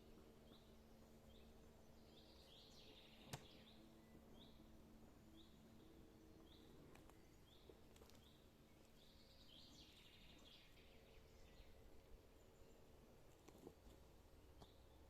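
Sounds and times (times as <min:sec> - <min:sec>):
bird chirping: 0:00.4 - 0:13.0.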